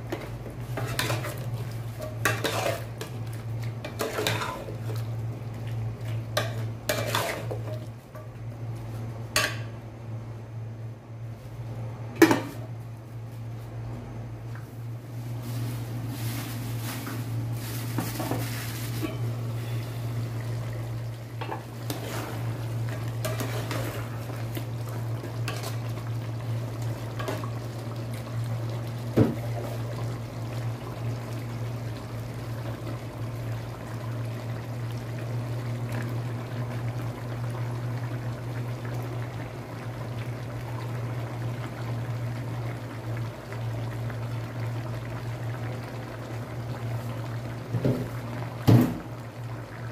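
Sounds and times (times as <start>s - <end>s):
stew simmering in a pot: 0.0s - 9.8s, 15.1s - 49.9s.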